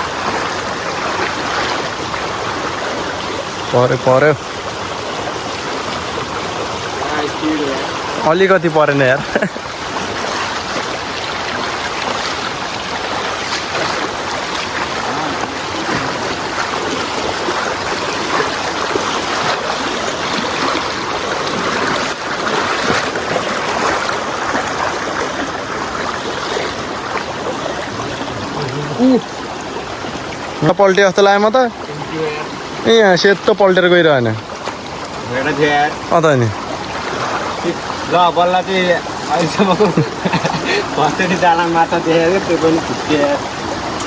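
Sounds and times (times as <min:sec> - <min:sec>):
stream water flowing: 0:00.0 - 0:44.0.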